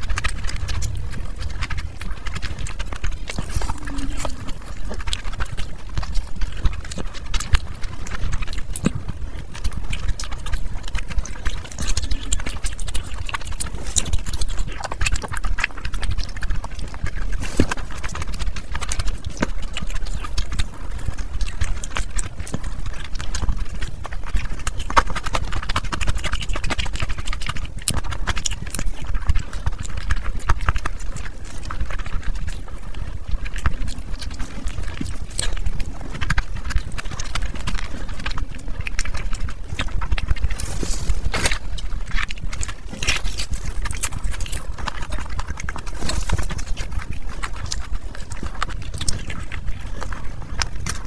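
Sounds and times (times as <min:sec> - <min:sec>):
chewing and lip smacking: 0:00.0 - 0:51.0.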